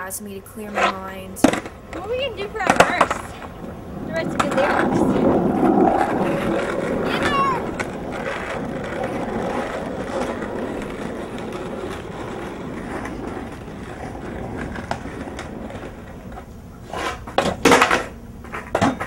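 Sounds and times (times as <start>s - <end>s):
skateboard wheels rolling on pavement: 0.0s - 19.0s.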